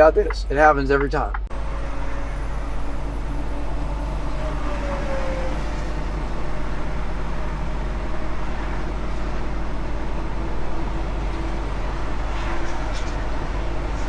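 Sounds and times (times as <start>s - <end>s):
truck engine and road noise: 0.0s - 14.0s
faint falling whine: 1.5s - 14.0s.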